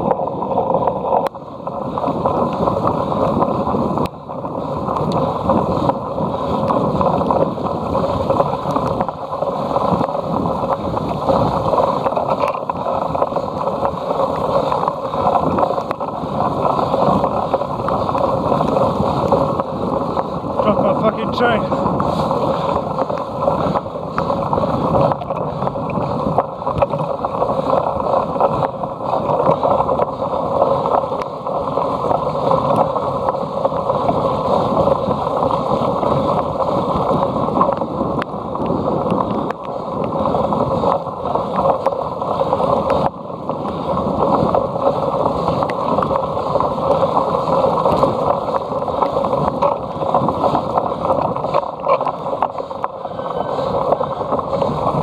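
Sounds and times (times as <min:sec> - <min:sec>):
wind and bike tyres rushing: 0:00.0 - 0:55.0.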